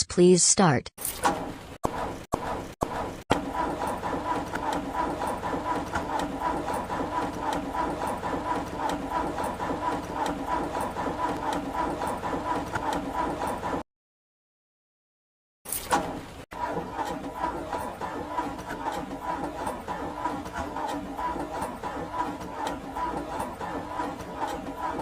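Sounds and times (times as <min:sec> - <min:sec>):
car engine cranking: 0:02.6 - 0:13.8, 0:15.9 - 0:25.0.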